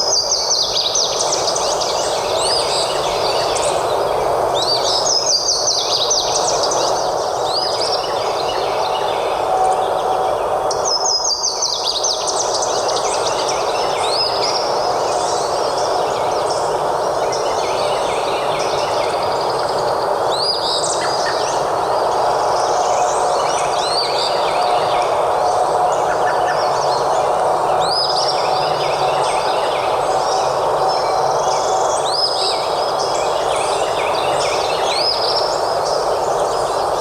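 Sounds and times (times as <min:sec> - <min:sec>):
songbirds singing: 0:00.0 - 0:37.0
steady background hiss: 0:00.0 - 0:37.0.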